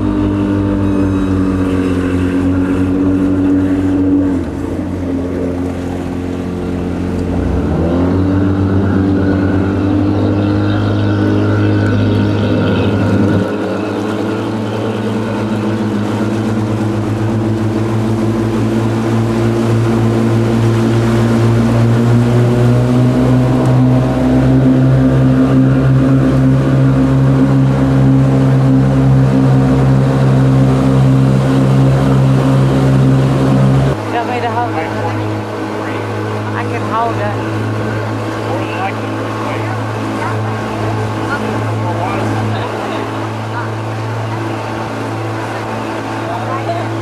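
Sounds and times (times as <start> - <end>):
boat motor running: 0.0 - 47.0.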